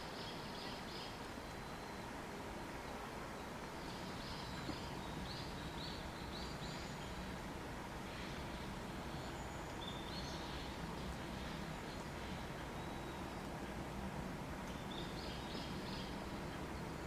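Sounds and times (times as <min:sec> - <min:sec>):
low background rush: 0:00.0 - 0:17.0.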